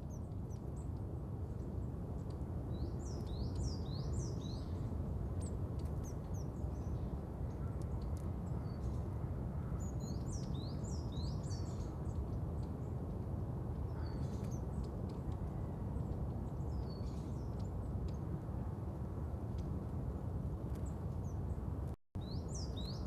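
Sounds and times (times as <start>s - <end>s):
low background rumble: 0.0s - 23.0s
birds chirping: 1.8s - 18.4s, 20.7s - 23.0s.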